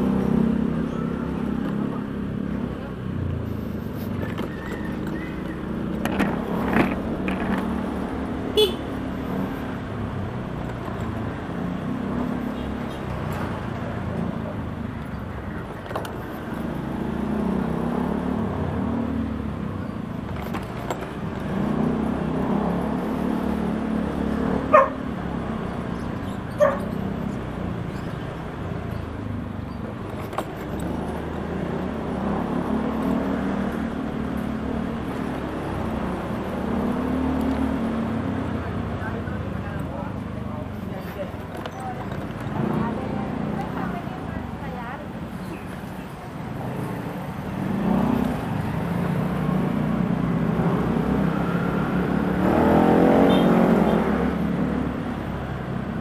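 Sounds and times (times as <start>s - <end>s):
scooter engine running: 0.0s - 52.2s
road and wind noise: 0.0s - 56.0s.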